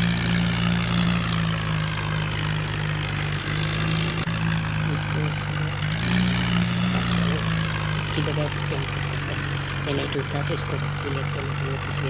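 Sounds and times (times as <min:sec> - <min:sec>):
mixer machine droning: 0:00.0 - 0:12.0.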